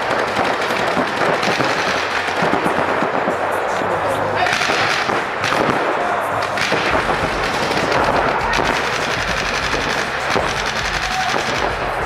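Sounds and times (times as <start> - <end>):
paintball markers firing rapidly: 0.0 - 3.3, 4.4 - 5.8, 6.4 - 12.0.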